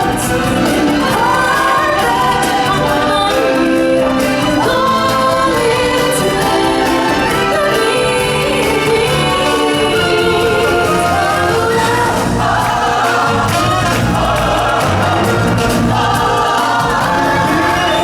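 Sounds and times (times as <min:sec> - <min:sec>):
choir singing: 0:00.0 - 0:18.0
instrumental backing: 0:00.0 - 0:18.0.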